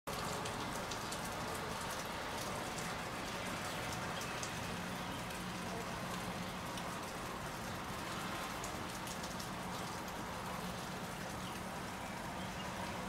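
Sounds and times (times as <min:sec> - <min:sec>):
steady rain falling: 0:00.1 - 0:13.0.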